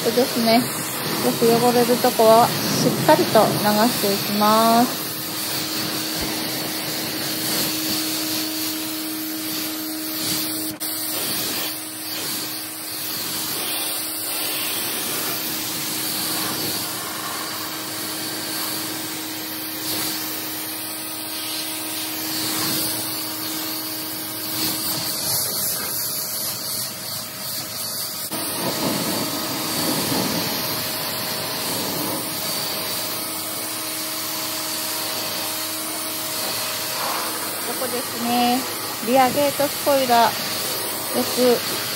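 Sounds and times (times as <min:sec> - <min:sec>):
hose spraying water on car: 0:00.0 - 0:41.9.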